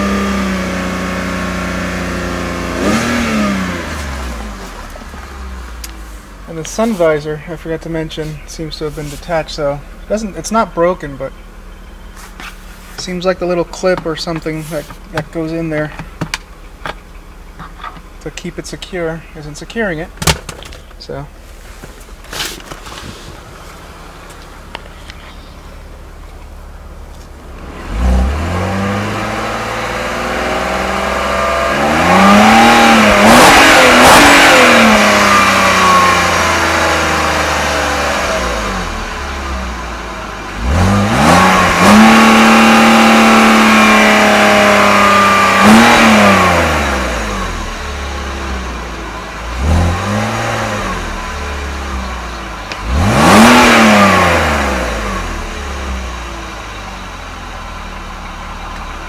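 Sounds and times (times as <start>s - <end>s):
car engine revving: 0.0s - 19.1s, 19.8s - 59.0s.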